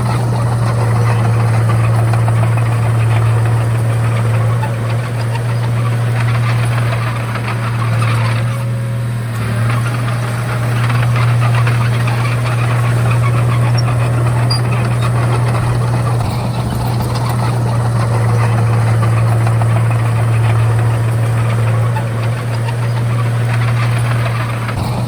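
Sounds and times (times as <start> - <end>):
bulldozer diesel engine clattering: 0.0 - 25.0.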